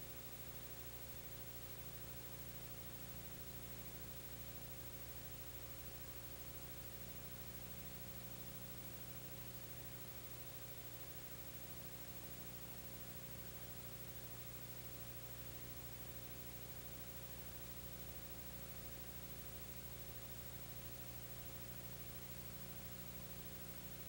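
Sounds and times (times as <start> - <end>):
low mains hum: 0.0 - 24.0.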